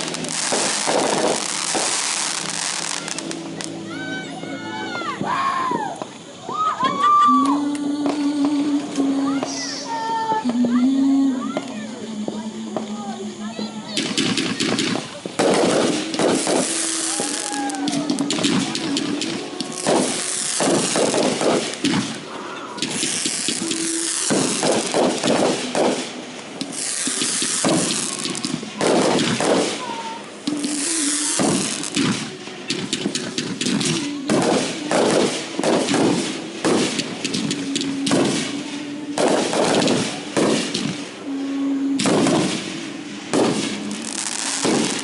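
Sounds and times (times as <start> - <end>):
fireworks bangs and crackling: 0.0 - 4.1, 11.4 - 45.0.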